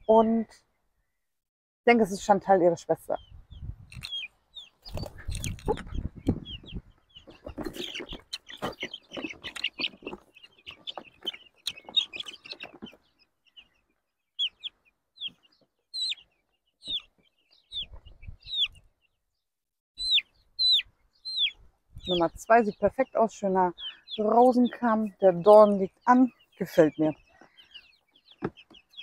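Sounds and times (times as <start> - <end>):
chick cheeping: 3.2 - 13.0, 14.4 - 18.9, 20.0 - 29.0.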